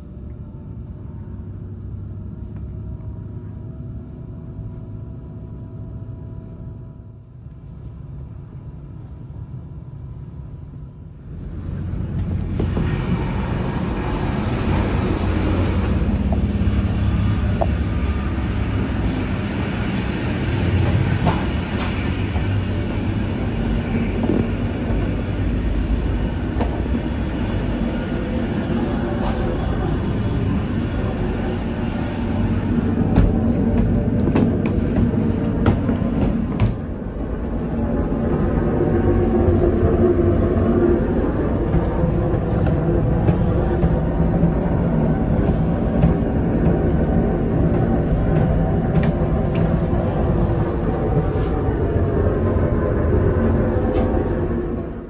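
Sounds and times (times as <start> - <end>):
train engine and wheels rumbling: 0.0 - 55.0.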